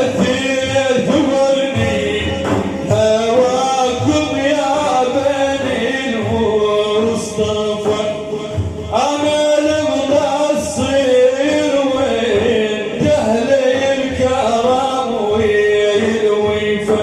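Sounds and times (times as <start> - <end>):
men chanting a hymn: 0.0 - 17.0.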